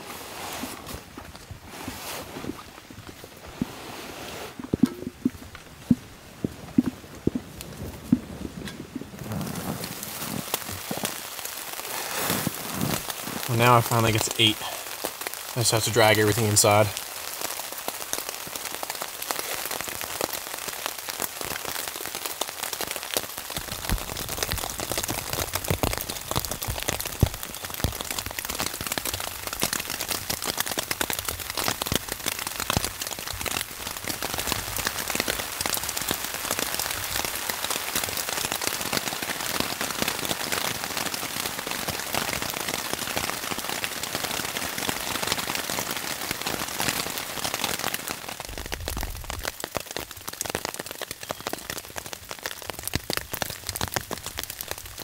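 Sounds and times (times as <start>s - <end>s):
rain on a tarp: 0.0s - 55.0s.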